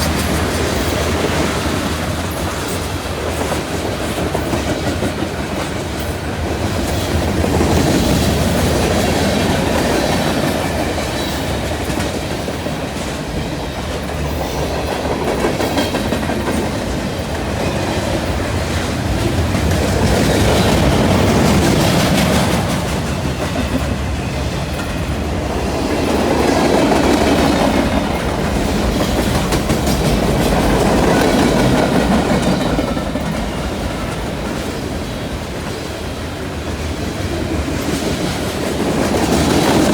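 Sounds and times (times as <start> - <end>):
freight train rumble: 0.0 - 39.9
train wheels clicking over rail joints: 0.0 - 39.9.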